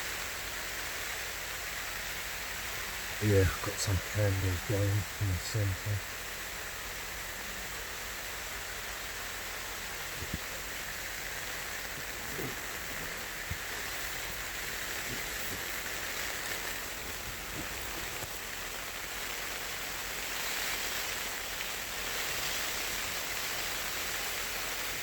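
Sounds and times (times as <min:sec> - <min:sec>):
heavy rain pelting down: 0:00.0 - 0:25.0.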